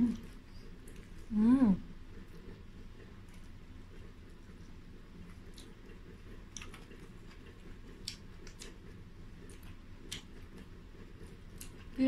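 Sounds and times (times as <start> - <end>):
chewing crispy chicken: 0.0 - 12.0.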